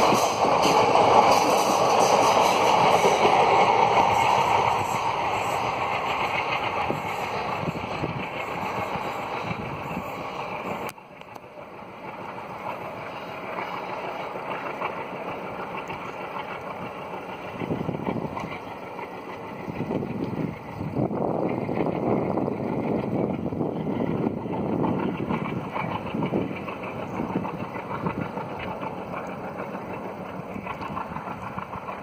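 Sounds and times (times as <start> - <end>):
distant train rumble: 0.0 - 32.0
train wheels rumbling on rail: 0.0 - 32.0.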